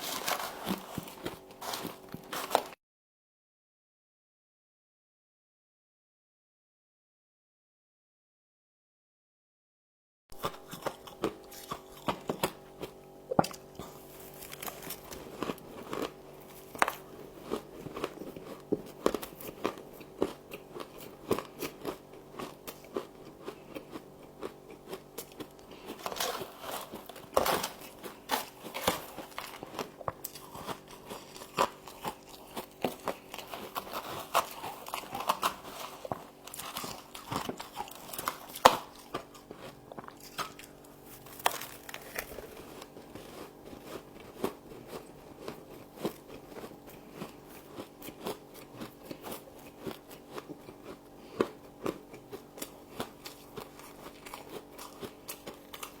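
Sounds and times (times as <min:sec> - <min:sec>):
chewing crunchy frost: 0:00.0 - 0:02.8, 0:10.3 - 0:56.0
faint steady hum: 0:10.3 - 0:56.0.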